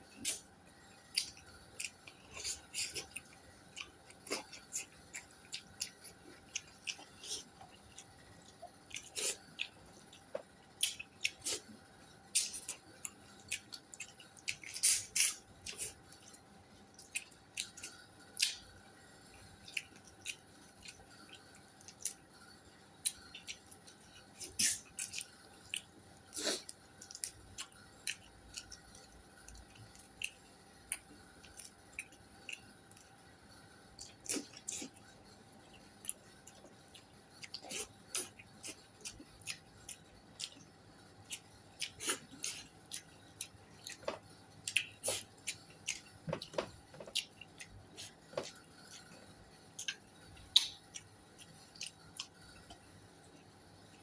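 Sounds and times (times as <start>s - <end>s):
faint steady hum: 0.0s - 54.0s
person chewing and smacking: 1.1s - 18.7s, 19.4s - 22.3s, 23.0s - 33.2s, 34.0s - 54.0s.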